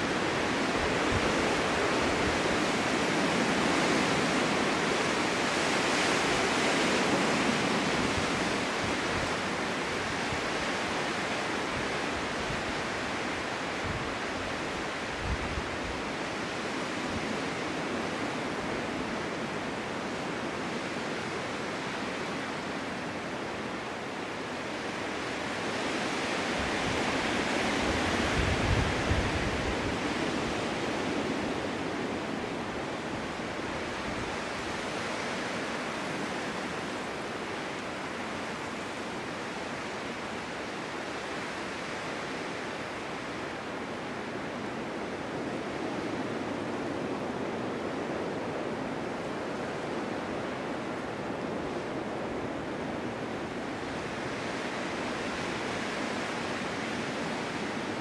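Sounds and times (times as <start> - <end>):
strong wind gusting: 0.0 - 58.0.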